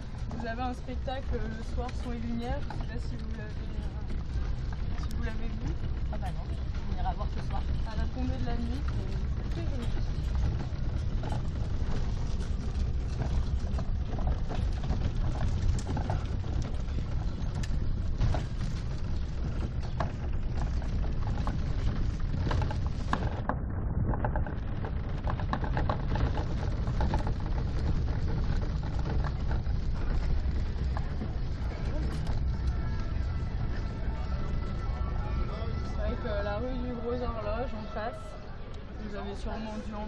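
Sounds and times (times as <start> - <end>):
rattles and clicks: 0.0 - 40.0
rickshaw rolling over cobblestones: 0.0 - 40.0.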